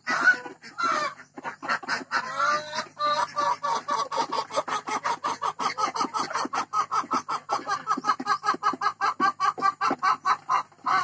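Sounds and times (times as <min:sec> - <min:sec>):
hen clucking rapidly: 0:00.0 - 0:11.0.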